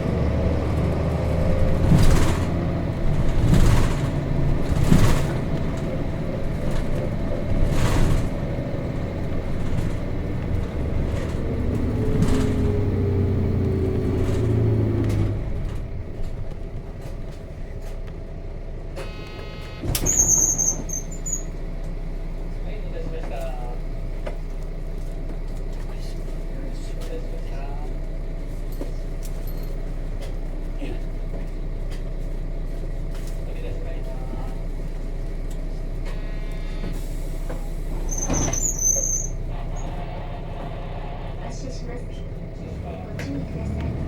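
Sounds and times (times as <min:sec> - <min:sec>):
bus body rattling: 0:00.0 - 0:44.0
bus diesel engine accelerating: 0:00.0 - 0:44.0.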